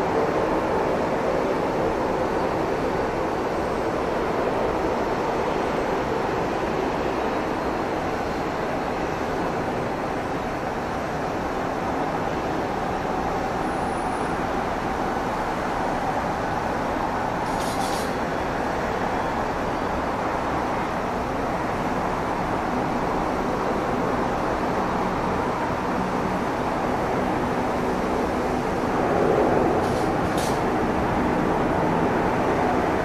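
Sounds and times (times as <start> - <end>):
distant turboprop engine drone: 0.0 - 33.0.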